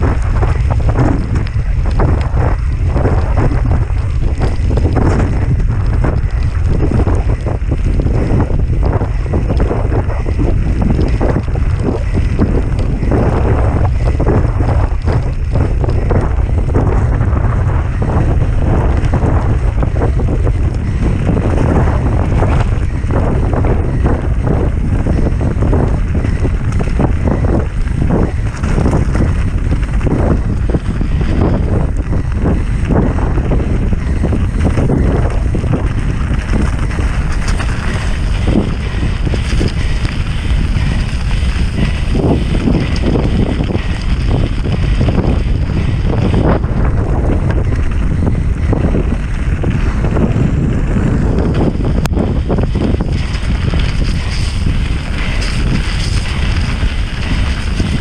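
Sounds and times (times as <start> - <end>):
bike knocks and rattles: 0.0 - 58.0
wind buffeting microphone: 0.0 - 58.0.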